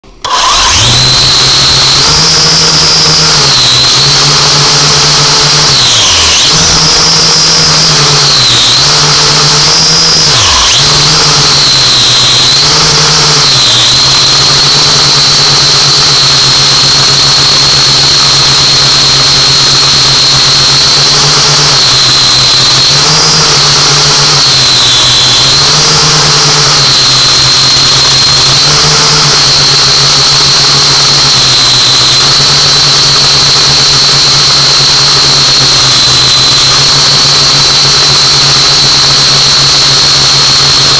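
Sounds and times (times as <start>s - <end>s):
drone propellers whirring: 0.0s - 40.9s.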